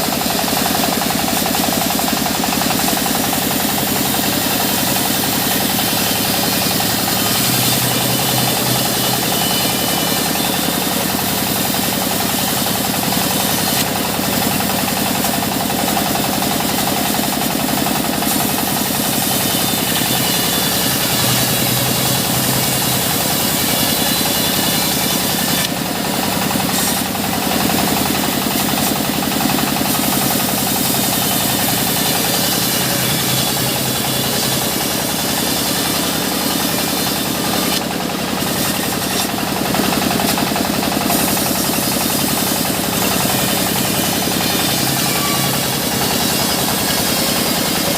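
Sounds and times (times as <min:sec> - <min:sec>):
sawmill machinery engine running: 0:00.0 - 0:47.9.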